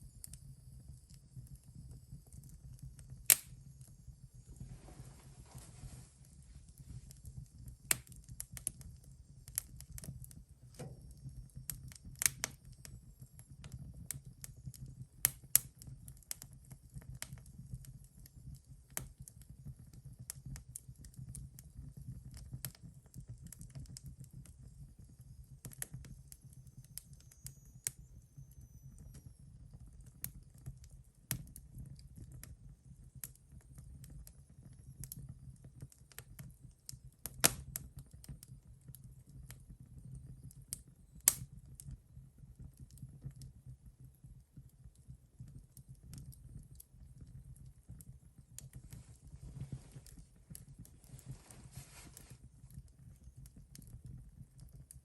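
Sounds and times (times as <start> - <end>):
low rumble of flames: 0.0 - 27.2, 27.8 - 55.0
wood fire crackling: 0.0 - 27.2, 29.8 - 55.0.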